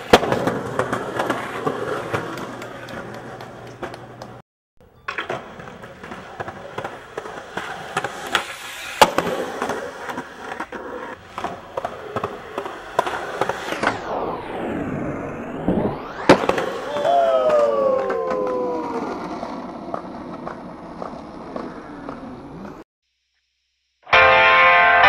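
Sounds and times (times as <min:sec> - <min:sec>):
skateboard clacks: 0:00.0 - 0:14.0, 0:16.3 - 0:22.8
skateboard wheels rolling on concrete: 0:00.0 - 0:22.8.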